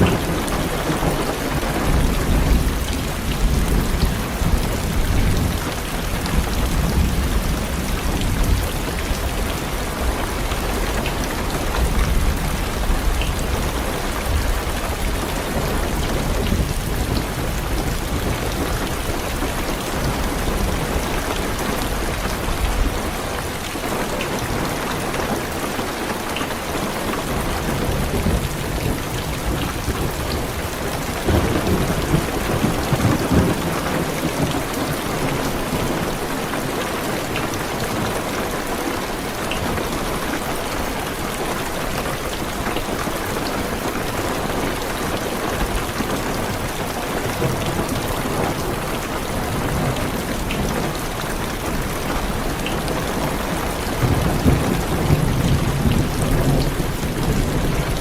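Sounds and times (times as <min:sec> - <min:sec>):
heavy rain on car roof: 0:00.0 - 0:58.0.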